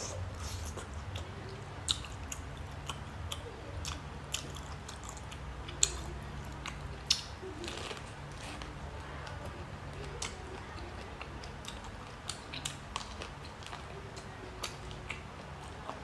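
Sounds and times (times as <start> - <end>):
chewing sea snails: 0.0 - 16.0.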